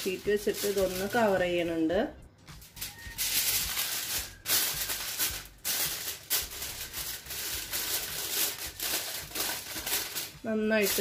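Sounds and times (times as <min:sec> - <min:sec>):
aluminium foil crinkling: 0:00.0 - 0:01.8, 0:02.5 - 0:11.0.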